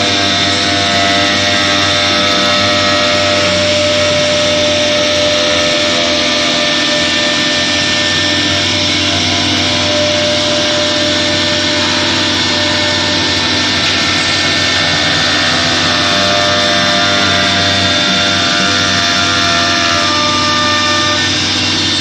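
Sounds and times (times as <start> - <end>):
cnc router whining and hissing: 0.0 - 22.0.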